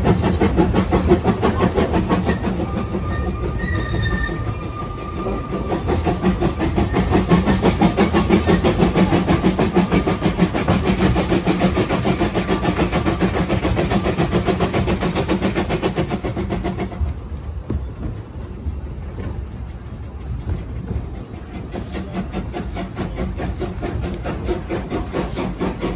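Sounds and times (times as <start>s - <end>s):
coasting locomotive rumble: 0.0s - 25.9s
steam locomotive exhaust beat: 0.0s - 25.9s.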